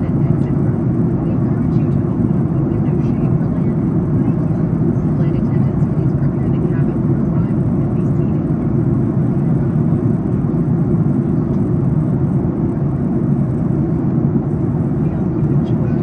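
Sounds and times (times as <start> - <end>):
airflow rush in airplane cabin: 0.0 - 16.0
jet engine noise: 0.0 - 16.0.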